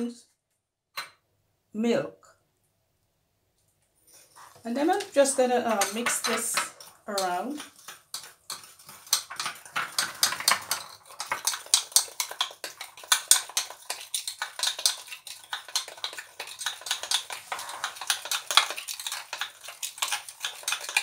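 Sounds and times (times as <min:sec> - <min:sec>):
metal spoon stirring in glass bowl: 0:04.1 - 0:21.0.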